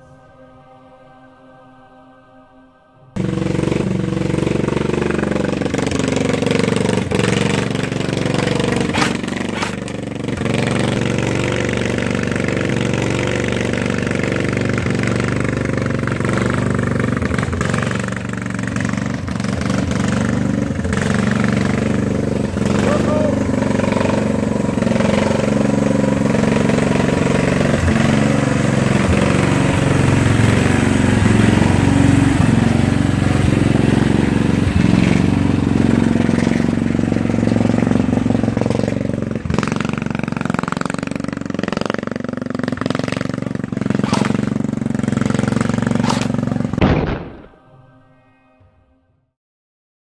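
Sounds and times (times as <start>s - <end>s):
lawn tractor engine running: 3.2s - 47.4s.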